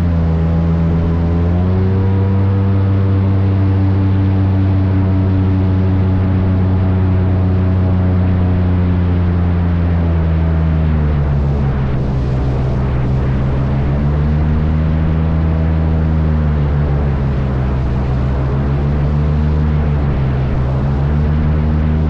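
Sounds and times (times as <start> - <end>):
airboat engine and propeller drone: 0.0 - 22.0.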